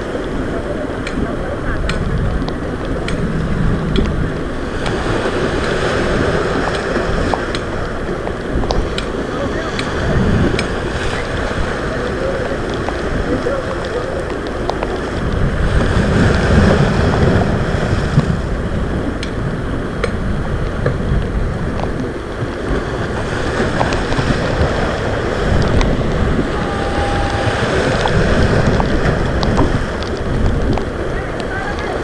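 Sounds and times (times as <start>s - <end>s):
rough sea waves: 0.0s - 32.0s
wind buffeting microphone: 0.0s - 32.0s.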